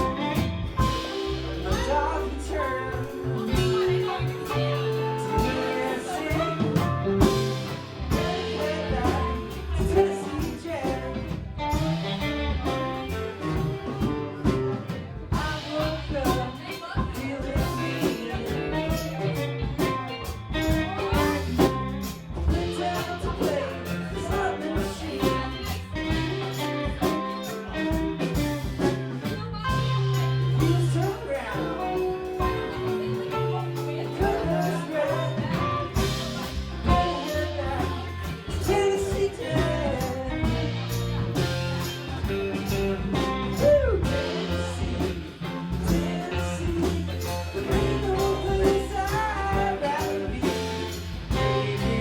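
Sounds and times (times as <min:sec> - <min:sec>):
live blues rock band: 0:00.0 - 0:52.0
person singing: 0:00.0 - 0:52.0.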